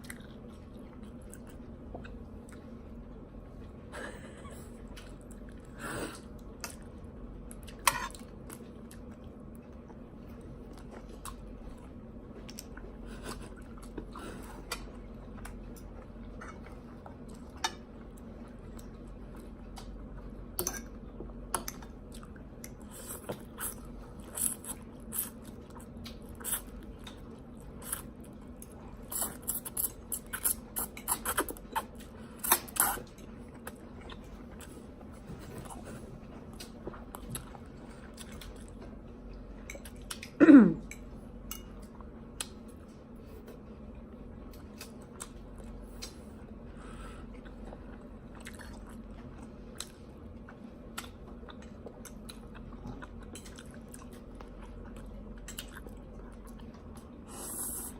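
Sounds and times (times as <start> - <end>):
chewing and crunching food: 0.0 - 57.9
steady low hum: 0.0 - 57.9.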